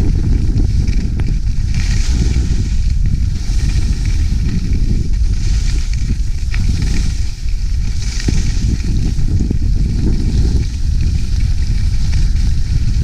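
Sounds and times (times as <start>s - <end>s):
skis scraping over snow: 0.0s - 13.0s
wind rumble on microphone: 0.0s - 13.0s.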